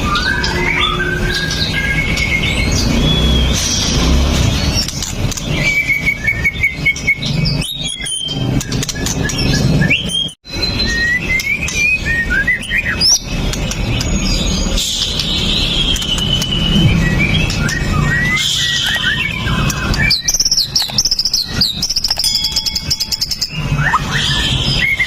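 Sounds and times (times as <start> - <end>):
bird singing whistled notes: 0.0 - 25.0.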